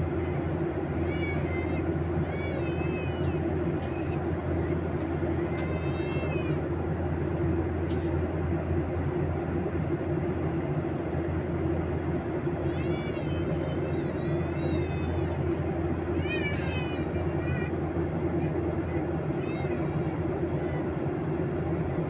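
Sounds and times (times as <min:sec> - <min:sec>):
airplane cabin drone: 0:00.0 - 0:22.0.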